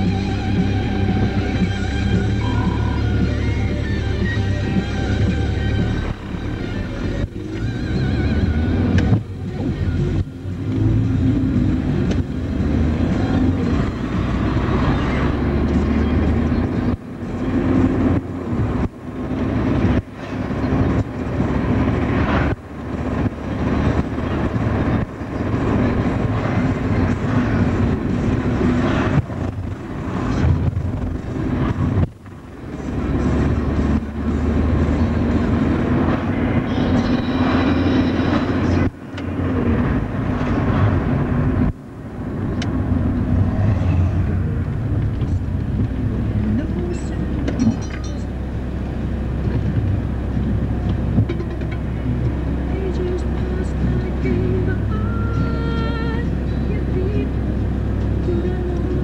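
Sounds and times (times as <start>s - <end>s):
car engine and road drone: 0.0s - 59.0s.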